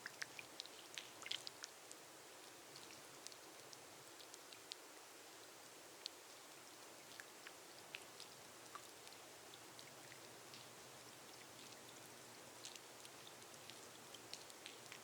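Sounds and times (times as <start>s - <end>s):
rain hissing on glass roof: 0.0s - 15.0s.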